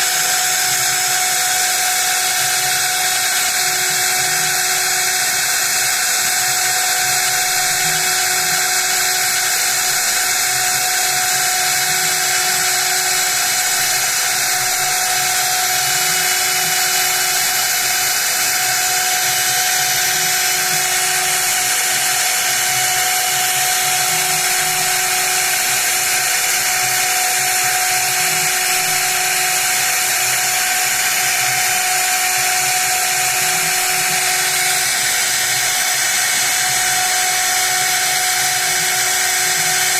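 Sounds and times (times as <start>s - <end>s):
hiss of cutting: 0.0s - 39.9s
mill spindle whining: 0.0s - 39.9s.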